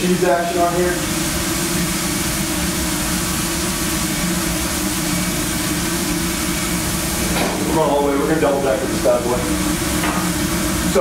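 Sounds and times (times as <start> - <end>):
exhaust hood fan humming: 0.0 - 11.0.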